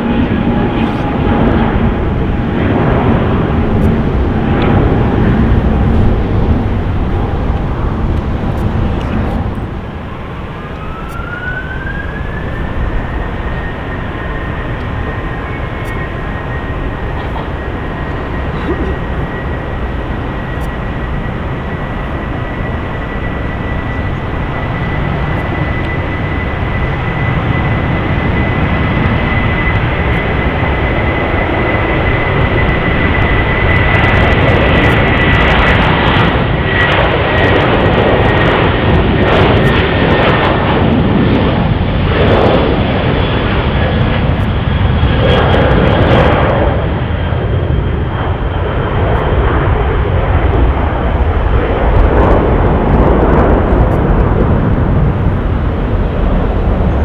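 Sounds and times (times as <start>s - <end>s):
jet engine roar: 0.0s - 57.0s
jet engine whine: 0.0s - 57.0s.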